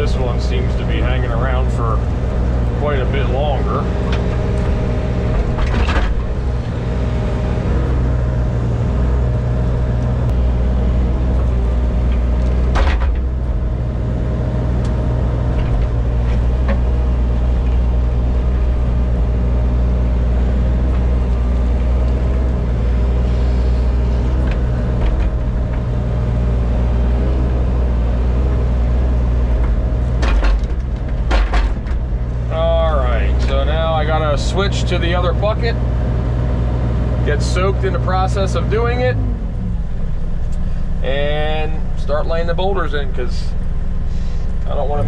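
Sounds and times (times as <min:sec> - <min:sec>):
earthmoving machine engine running: 0:00.0 - 0:45.0.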